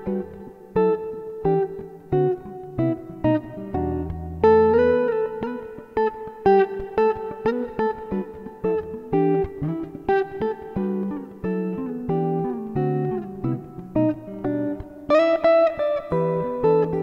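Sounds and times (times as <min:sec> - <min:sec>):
plucked guitar notes: 0:00.0 - 0:17.0.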